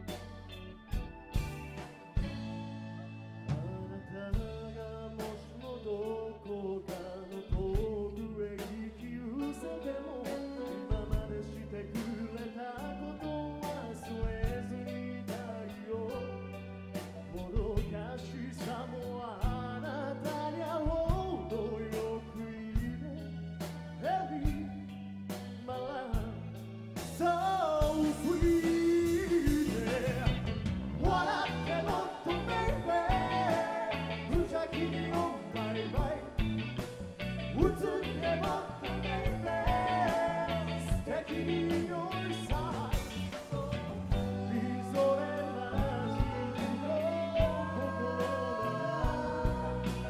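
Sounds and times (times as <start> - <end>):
live rock band playing: 0.0 - 50.0
lead vocalist singing: 3.4 - 50.0.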